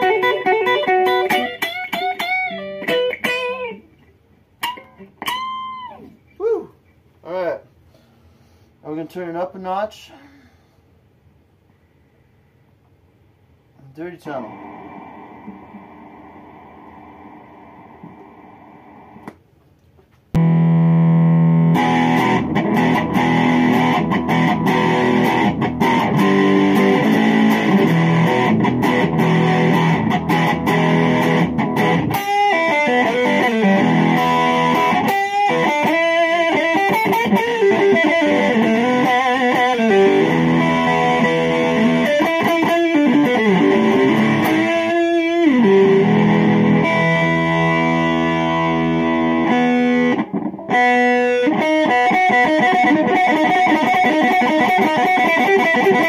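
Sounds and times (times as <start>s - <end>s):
distorted electric guitar: 0.0s - 6.3s, 14.2s - 19.3s, 20.4s - 56.0s
faint amp hum: 0.0s - 56.0s.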